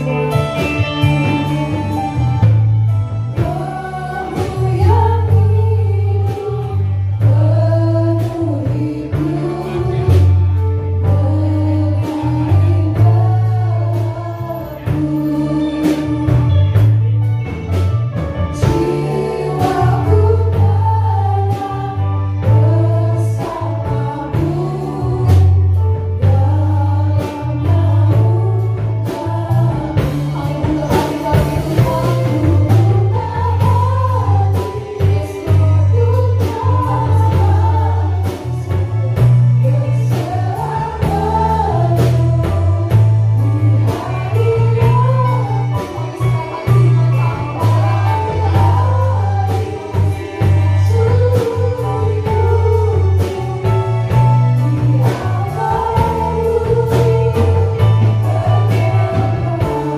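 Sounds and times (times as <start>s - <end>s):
women singing: 0.0s - 17.5s, 18.5s - 59.9s
bass line: 0.0s - 59.9s
drum kit: 0.0s - 59.9s
electric guitars: 0.0s - 59.9s
keyboard: 0.0s - 59.9s.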